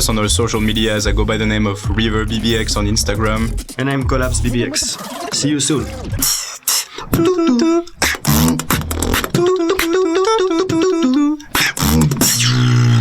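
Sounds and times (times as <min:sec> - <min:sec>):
beatboxing kick and snare: 0:00.0 - 0:13.0.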